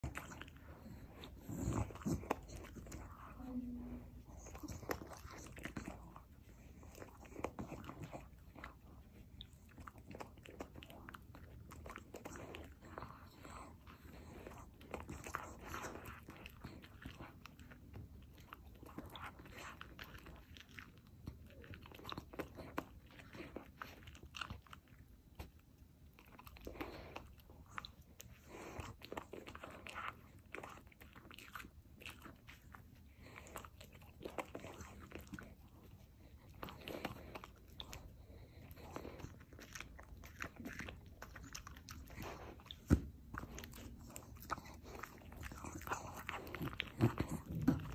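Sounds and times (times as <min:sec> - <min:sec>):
dog chewing and crunching bread: 0:00.0 - 0:47.9.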